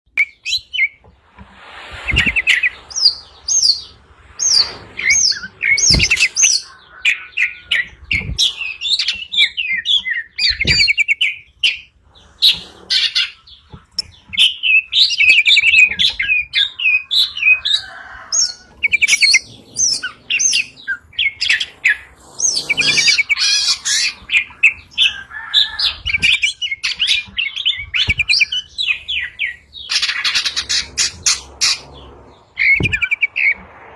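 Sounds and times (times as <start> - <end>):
small songbirds chirping: 2.0 - 33.9.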